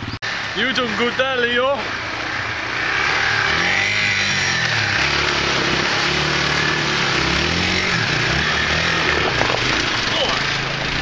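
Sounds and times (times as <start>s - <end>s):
motorcycle engine revving: 0.0s - 11.0s
water splashing from wheels: 0.0s - 11.0s.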